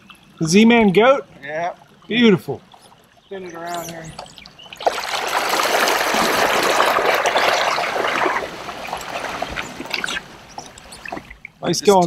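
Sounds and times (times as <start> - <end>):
water churning from outboard motor: 0.0 - 12.0.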